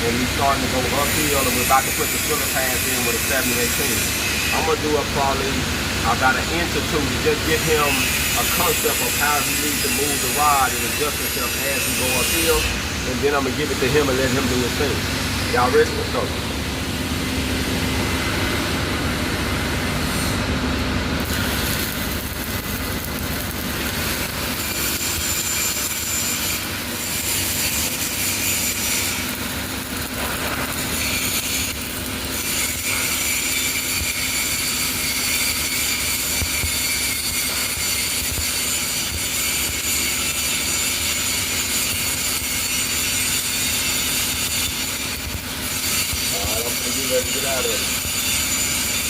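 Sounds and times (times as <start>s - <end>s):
welding arc sizzling: 0.0s - 49.0s.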